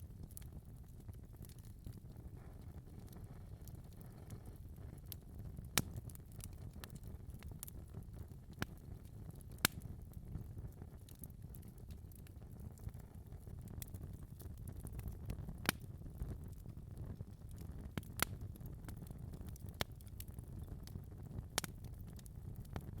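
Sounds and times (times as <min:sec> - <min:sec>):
wood fire burning and crackling: 0:00.0 - 0:23.0.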